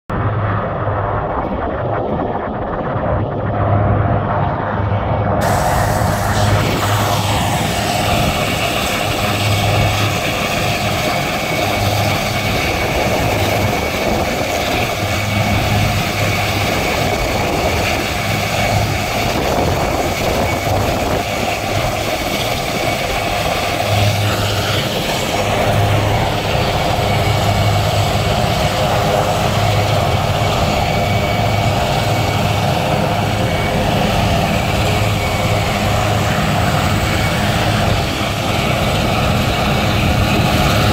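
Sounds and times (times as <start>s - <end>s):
helicopter turbine whine: 0.1s - 40.9s
rotor blades churning: 0.4s - 40.9s.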